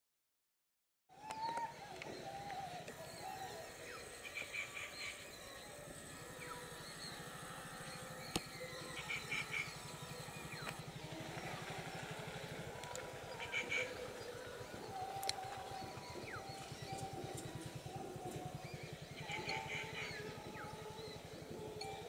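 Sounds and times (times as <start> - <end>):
bird chirping: 1.2 - 22.0
low steady throb: 1.6 - 22.0.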